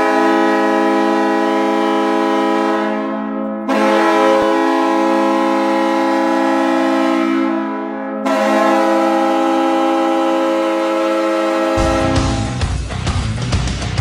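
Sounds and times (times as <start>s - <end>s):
goal horn blowing a low note: 0.0s - 12.7s.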